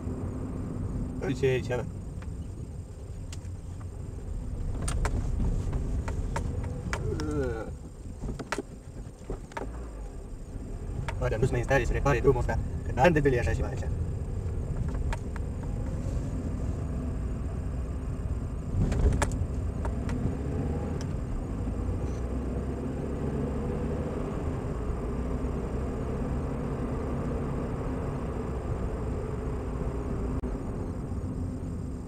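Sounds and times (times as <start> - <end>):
car engine: 0.0 - 32.0
tyre noise on rough road: 0.0 - 32.0.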